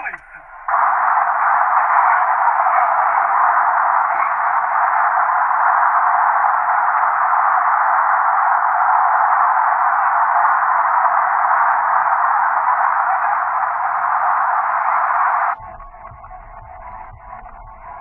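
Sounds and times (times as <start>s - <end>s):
static-like hiss: 0.0s - 18.0s.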